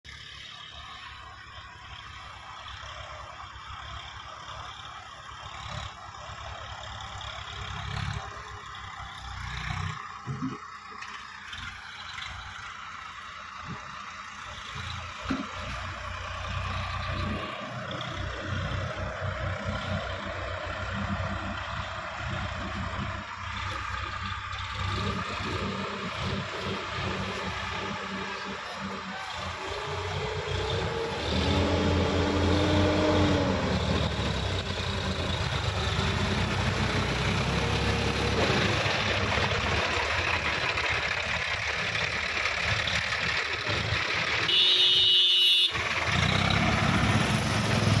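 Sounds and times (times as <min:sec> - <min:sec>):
tractor diesel engines rumbling: 0:00.0 - 0:48.0.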